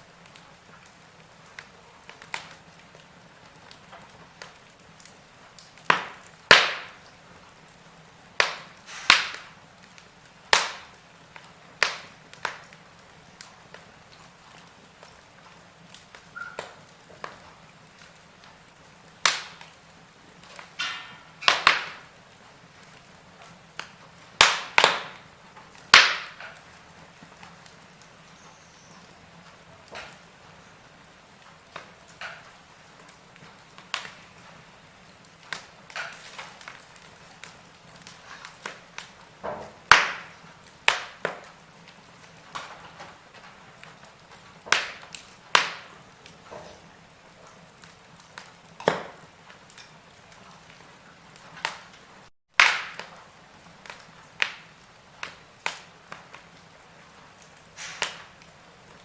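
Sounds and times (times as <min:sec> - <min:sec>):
low steady hiss: 0:00.0 - 0:59.0
wood fire crackling: 0:00.0 - 0:59.0.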